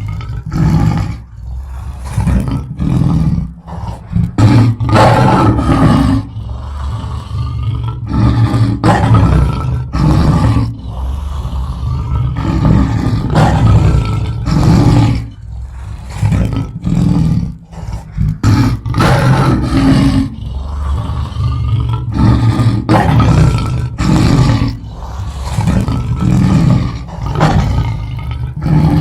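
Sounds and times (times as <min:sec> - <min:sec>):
lion roaring: 0:00.0 - 0:29.0.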